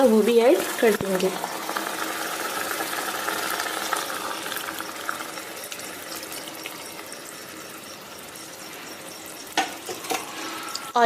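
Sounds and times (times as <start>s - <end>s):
food simmering: 0.0s - 11.0s
milk pouring into a pan: 0.6s - 10.9s.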